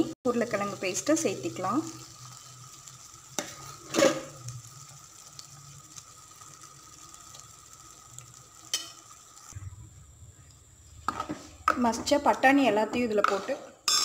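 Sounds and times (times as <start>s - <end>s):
paste sizzling in a pot: 0.0s - 14.0s.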